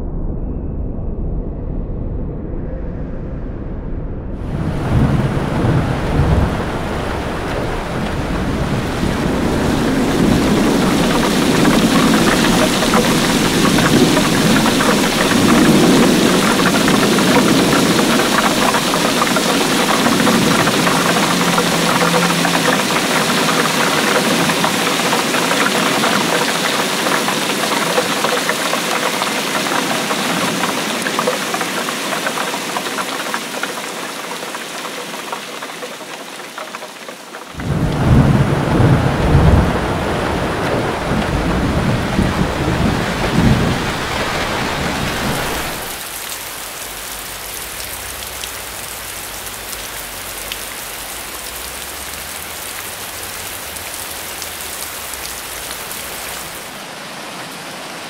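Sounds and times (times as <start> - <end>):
thunder rumble: 0.0 - 33.1, 37.5 - 56.7
steady rain falling: 4.4 - 58.0.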